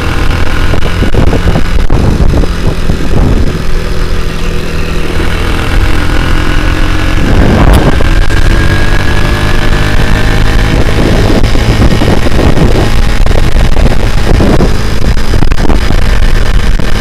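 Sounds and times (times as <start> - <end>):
motorcycle engine running hard: 0.0 - 17.0.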